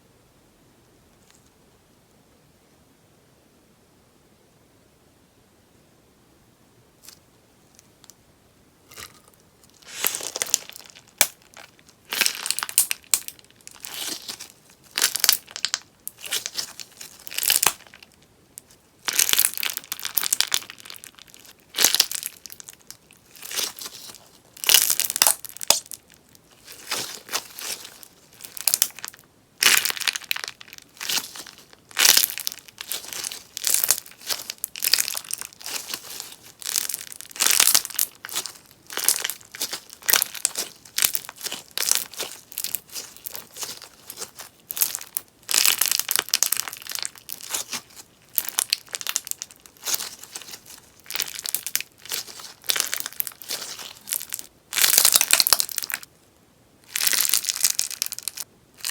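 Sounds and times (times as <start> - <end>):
slime popping and crackling: 8.9 - 56.1, 56.9 - 58.9.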